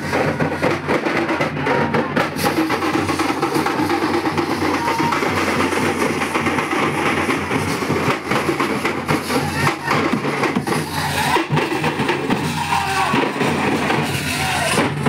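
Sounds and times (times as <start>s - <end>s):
drumming: 0.0s - 15.0s
large crowd din: 0.0s - 15.0s.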